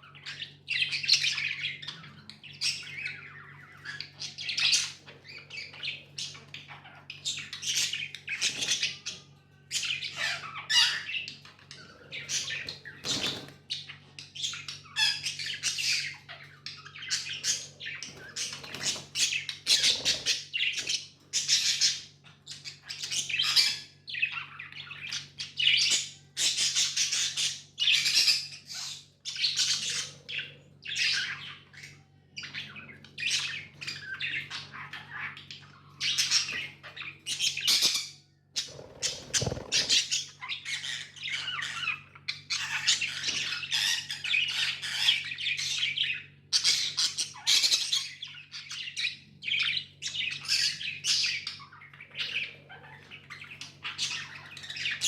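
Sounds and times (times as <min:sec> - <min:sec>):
budgies chirping and squawking: 0:00.0 - 0:55.0.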